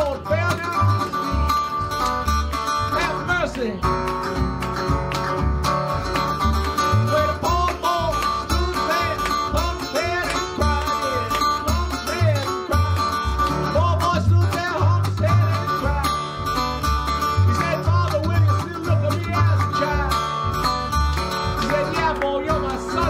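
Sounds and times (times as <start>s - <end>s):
resonator guitar: 0.0s - 23.0s
washtub bass plucking: 0.0s - 23.0s.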